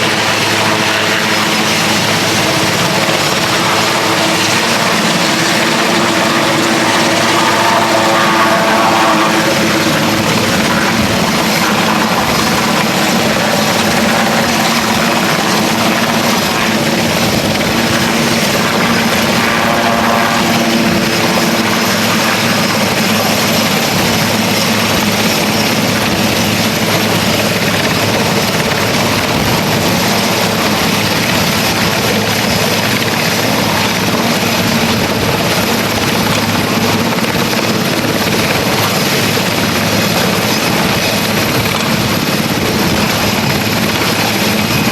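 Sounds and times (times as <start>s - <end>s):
helicopter rotors and turbine: 0.0s - 44.9s.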